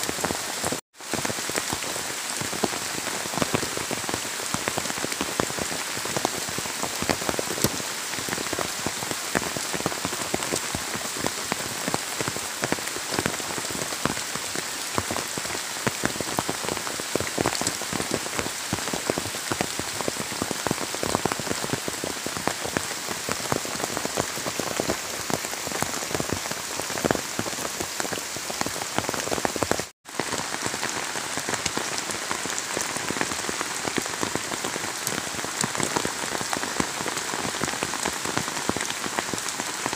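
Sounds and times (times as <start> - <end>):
steady rain on trees: 0.0 - 39.9.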